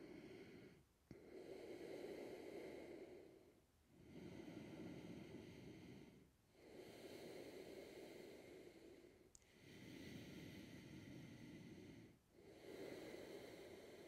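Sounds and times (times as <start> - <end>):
person breathing: 0.0 - 14.0.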